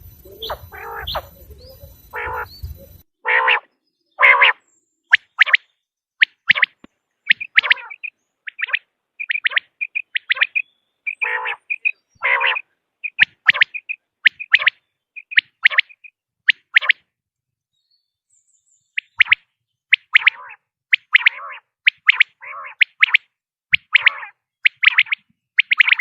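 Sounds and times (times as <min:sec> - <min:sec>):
quail calling: 0:00.0 - 0:17.0, 0:20.0 - 0:26.0.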